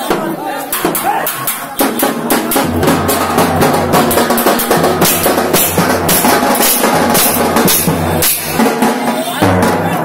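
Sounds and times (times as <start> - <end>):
drums played with sticks: 0.0 - 10.0.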